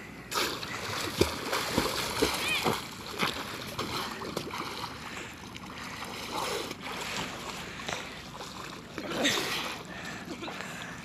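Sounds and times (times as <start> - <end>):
water washing: 0.3 - 10.8
swimmer splashing: 0.3 - 10.9.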